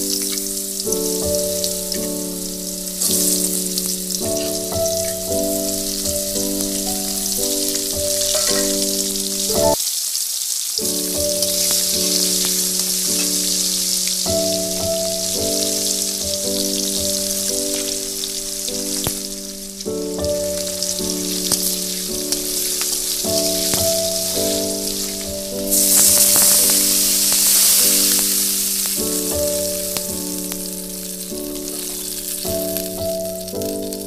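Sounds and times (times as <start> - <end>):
music with slow held notes: 0.0 - 9.8, 10.8 - 34.0
food sizzling in hot oil: 0.0 - 34.0.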